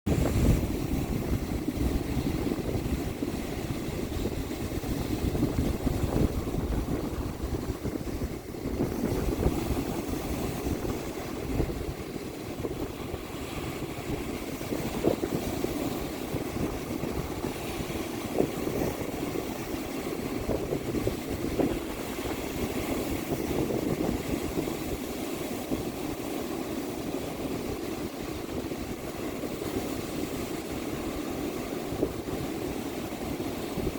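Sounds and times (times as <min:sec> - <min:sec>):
ocean surf breaking on beach: 0:00.1 - 0:33.9
wind buffeting microphone: 0:00.1 - 0:33.9.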